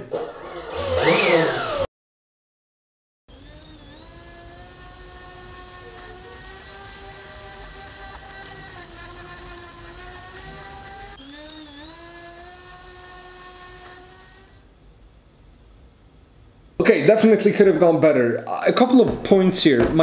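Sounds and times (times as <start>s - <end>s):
electric ducted fan whine: 3.3s - 19.7s.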